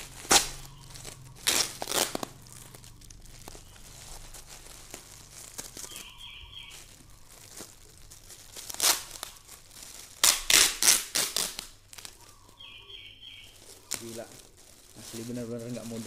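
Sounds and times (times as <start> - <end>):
plastic bag crinkling: 0.0 - 16.0
plastic bag ripping: 0.0 - 16.0.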